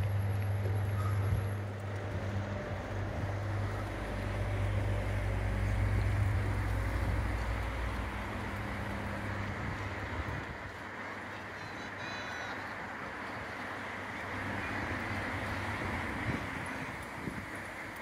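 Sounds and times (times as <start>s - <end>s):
vehicle engine running: 0.0s - 11.9s, 12.6s - 18.0s
street traffic noise: 0.0s - 18.0s.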